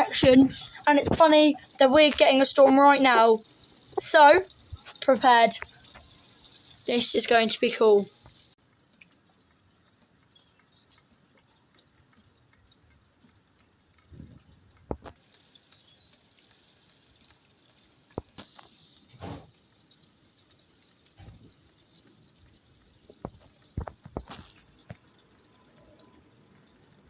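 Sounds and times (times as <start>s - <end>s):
faint rain hiss: 0.0s - 27.0s
water dripping: 0.0s - 27.0s.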